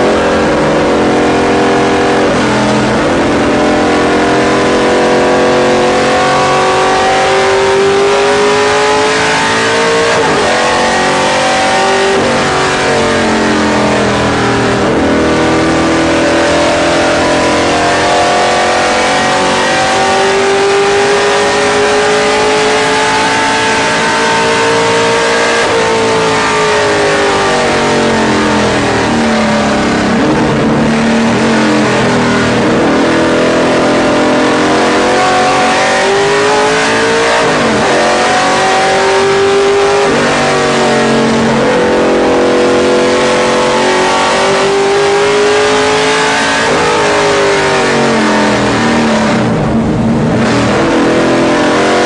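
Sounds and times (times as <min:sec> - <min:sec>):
race car engine revving: 0:00.0 - 0:52.0
wind and road noise: 0:00.0 - 0:52.0.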